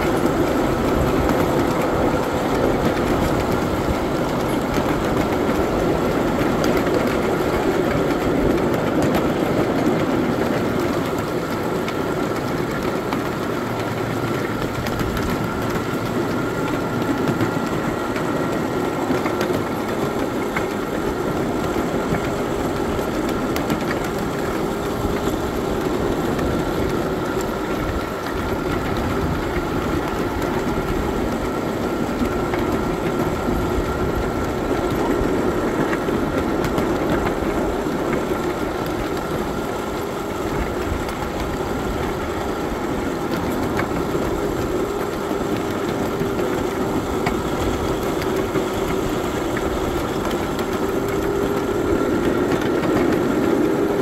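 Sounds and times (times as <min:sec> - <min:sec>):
miniature train engine droning: 0:00.0 - 0:54.0.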